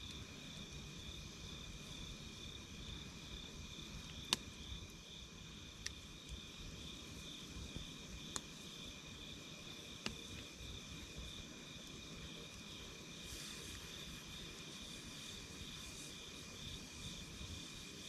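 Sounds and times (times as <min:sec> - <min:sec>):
campfire crackling: 0:00.0 - 0:18.0
night insects calling: 0:00.0 - 0:18.0.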